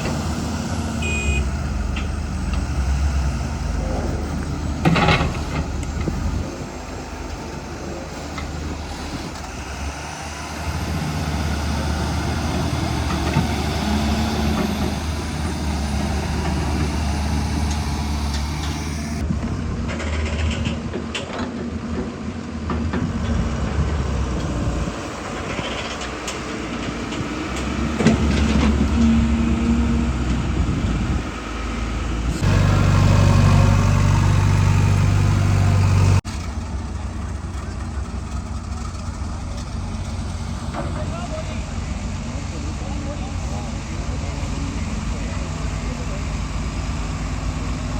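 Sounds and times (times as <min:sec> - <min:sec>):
heavy diesel engines working: 0:00.0 - 0:47.9.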